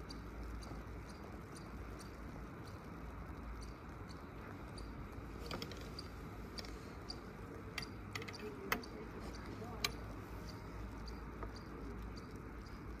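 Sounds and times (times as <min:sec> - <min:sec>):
light clicks and creaks: 0:00.0 - 0:13.0.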